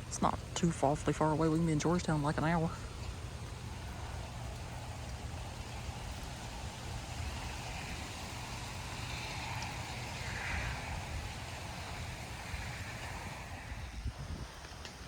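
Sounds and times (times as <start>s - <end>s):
wind buffeting microphone: 0.0s - 15.0s
wind gusting: 0.0s - 15.0s.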